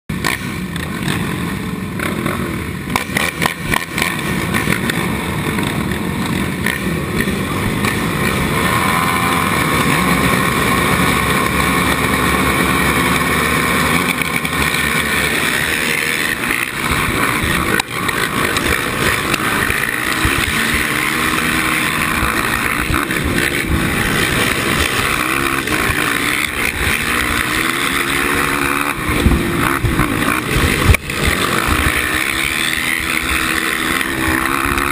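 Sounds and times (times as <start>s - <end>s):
quad engines revving: 0.1s - 34.9s.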